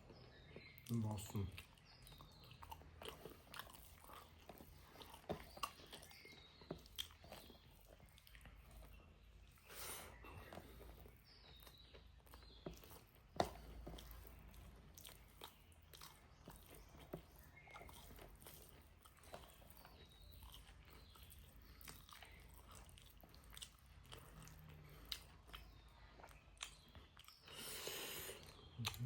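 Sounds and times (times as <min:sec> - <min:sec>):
person chewing: 0:00.0 - 0:29.0.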